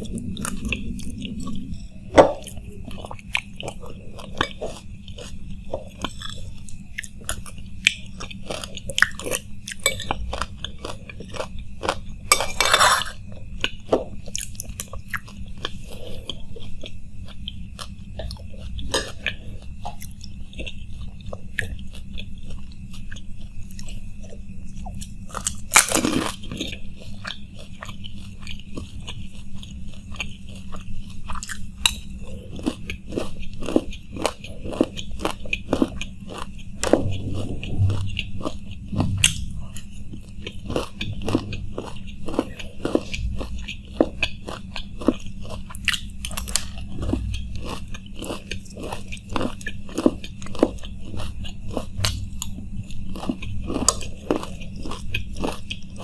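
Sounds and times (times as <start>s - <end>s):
crunching and chewing snack: 0.0s - 56.0s.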